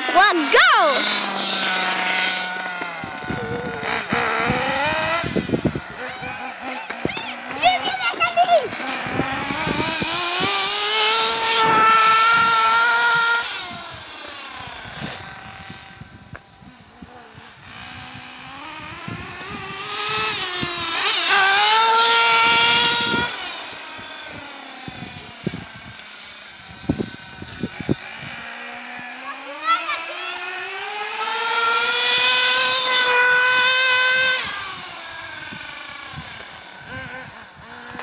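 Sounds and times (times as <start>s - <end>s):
nitro engine at high revs: 0.0s - 38.0s.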